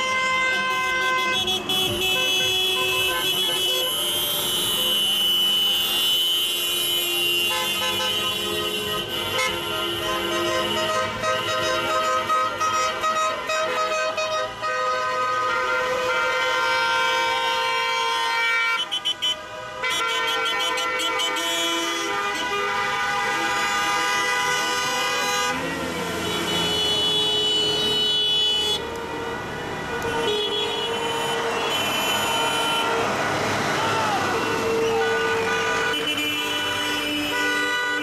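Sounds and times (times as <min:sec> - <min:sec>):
car horns honking: 0:00.0 - 0:38.0.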